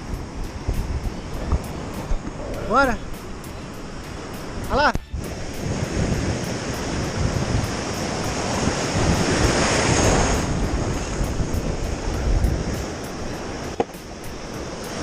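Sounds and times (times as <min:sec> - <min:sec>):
surf washing and churning: 0:00.0 - 0:15.0
wind buffeting microphone: 0:00.0 - 0:15.0.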